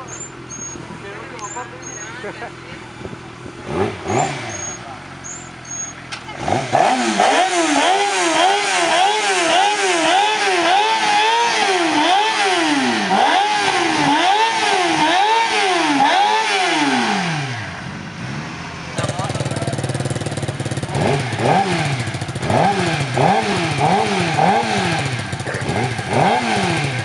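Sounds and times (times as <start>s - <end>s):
engine revving in throttle blips: 0.0s - 27.0s.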